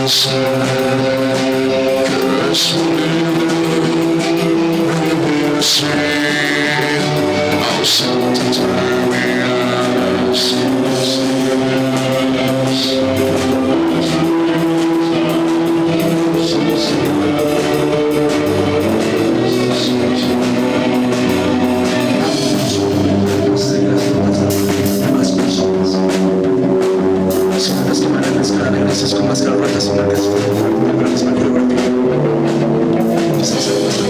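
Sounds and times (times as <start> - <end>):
rock band music: 0.0 - 34.0.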